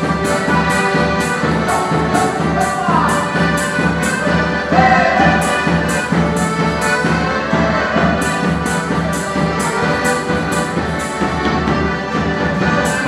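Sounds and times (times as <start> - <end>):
accordions holding chords: 0.0 - 13.0
folk band playing dance music: 0.0 - 13.0
crisp high beat: 0.3 - 11.8.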